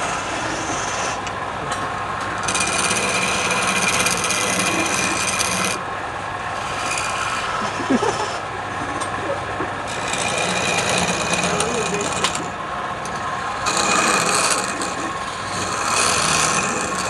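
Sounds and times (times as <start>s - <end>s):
turning tool cutting wood: 0.0s - 1.3s, 2.4s - 5.8s, 6.5s - 8.4s, 9.7s - 17.0s
wood lathe running: 0.0s - 1.4s, 2.2s - 17.0s.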